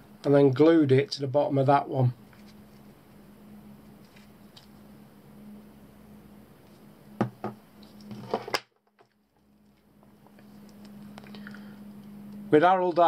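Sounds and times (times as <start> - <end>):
steady low hum: 0.0 - 8.5, 9.1 - 13.0.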